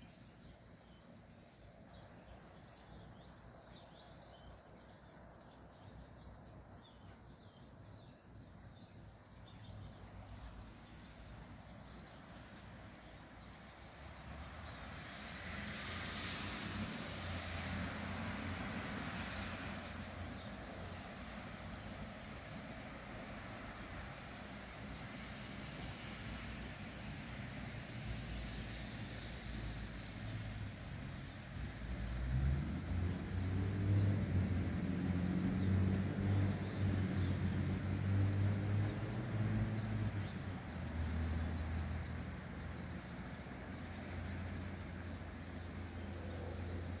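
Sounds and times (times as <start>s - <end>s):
traffic on wet roads: 7.9s - 47.0s.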